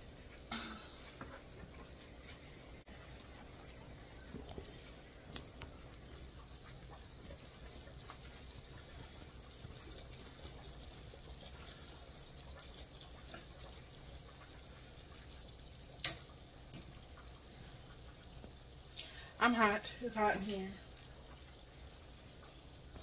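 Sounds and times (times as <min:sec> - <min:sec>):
cooking hiss: 0:00.0 - 0:23.0.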